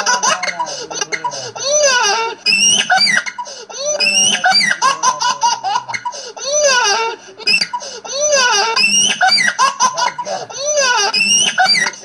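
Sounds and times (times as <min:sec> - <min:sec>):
high-pitched giggling: 0:00.0 - 0:12.0.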